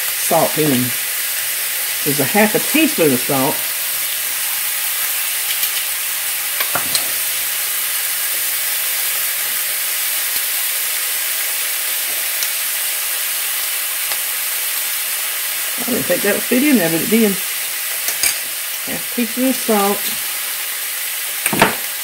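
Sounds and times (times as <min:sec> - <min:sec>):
meat sauce sizzling in a skillet: 0:00.0 - 0:22.0.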